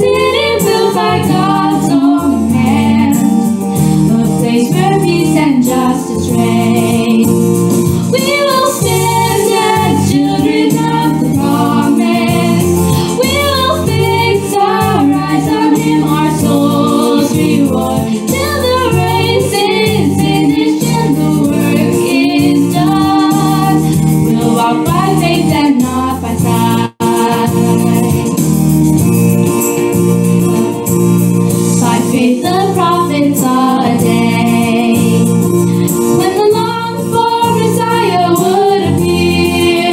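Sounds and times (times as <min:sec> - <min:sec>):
gospel song with choir: 0:00.0 - 0:39.9.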